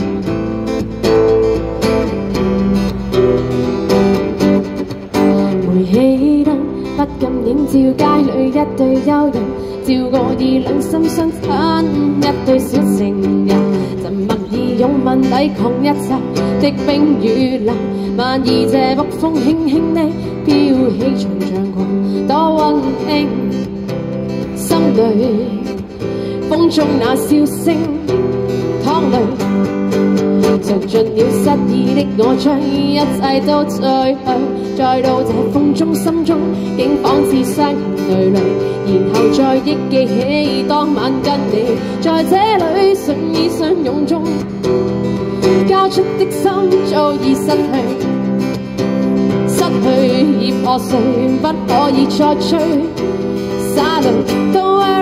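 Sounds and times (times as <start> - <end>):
acoustic guitar: 0.0 - 55.0
woman singing a pop song: 1.0 - 55.0.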